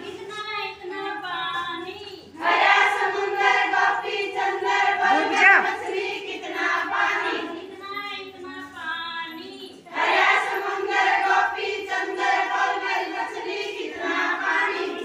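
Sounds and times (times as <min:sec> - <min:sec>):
women singing in unison: 0:00.0 - 0:15.0.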